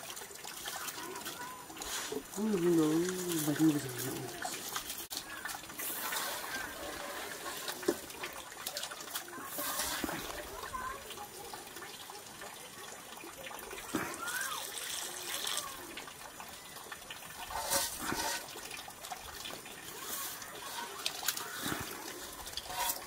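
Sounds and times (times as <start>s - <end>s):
water splashes: 0.0s - 23.0s
water trickling into a pot: 0.0s - 23.0s.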